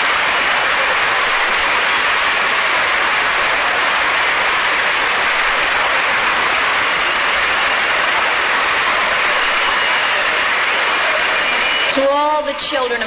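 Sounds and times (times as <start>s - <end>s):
crowd applauding and cheering: 0.0s - 13.0s.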